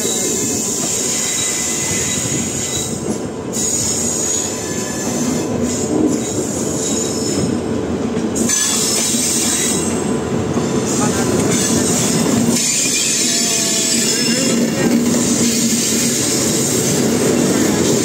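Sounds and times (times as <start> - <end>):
high screeching hiss from wheels: 0.0 - 7.5, 8.4 - 10.0, 10.7 - 17.9
train wheels rumbling on rail: 0.0 - 18.0.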